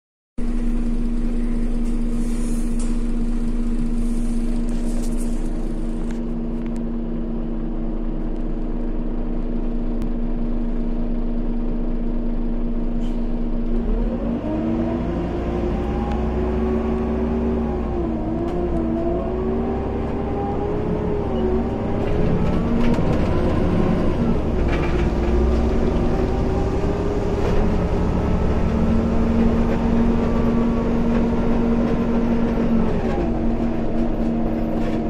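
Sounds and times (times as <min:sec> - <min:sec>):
bus engine idling and accelerating: 0:00.4 - 0:35.0.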